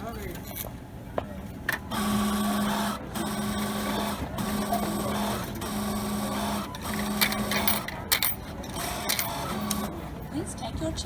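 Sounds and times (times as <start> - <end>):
cash-handling motor humming: 1.7 - 11.0.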